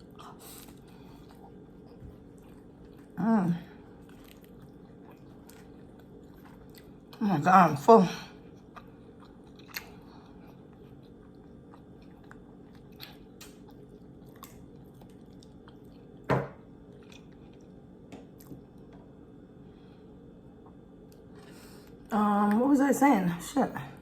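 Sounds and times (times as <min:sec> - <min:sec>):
person chewing food: 0:00.0 - 0:07.2, 0:08.4 - 0:22.1
low steady hum: 0:00.0 - 0:24.0.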